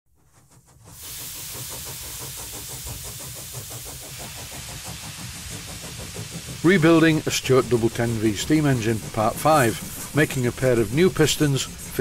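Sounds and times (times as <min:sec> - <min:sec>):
steam engine running: 0:00.2 - 0:12.0
steam hiss: 0:00.2 - 0:12.0.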